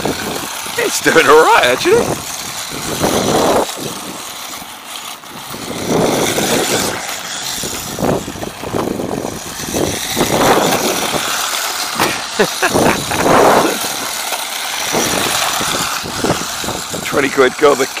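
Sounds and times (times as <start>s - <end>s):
small electric motor whining: 0.0s - 18.0s
tyres running over snow: 0.0s - 18.0s.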